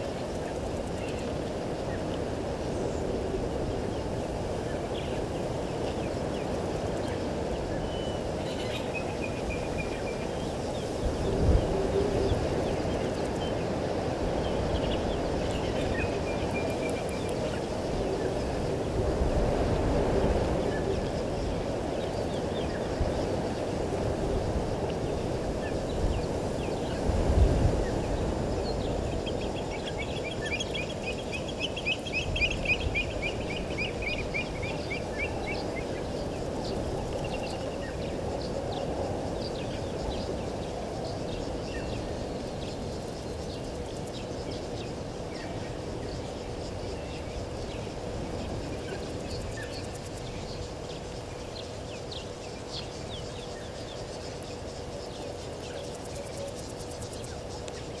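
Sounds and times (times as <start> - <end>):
faint constant hum: 0.0 - 58.0.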